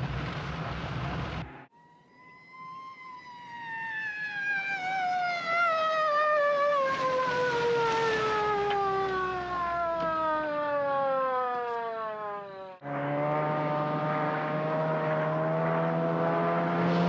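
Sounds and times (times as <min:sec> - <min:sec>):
police siren falling tone: 0:01.7 - 0:17.0.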